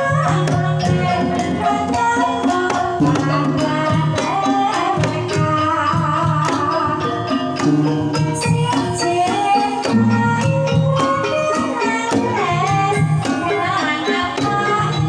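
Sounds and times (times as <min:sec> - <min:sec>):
gamelan melody: 0:00.0 - 0:15.0
hand drum strokes: 0:00.0 - 0:15.0
woman singing: 0:00.0 - 0:15.0.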